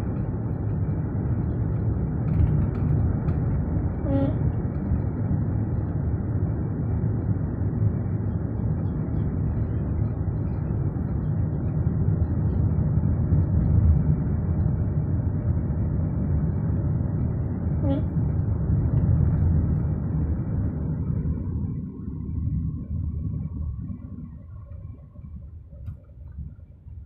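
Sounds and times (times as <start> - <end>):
car driving over dirt track: 0.0 - 25.0.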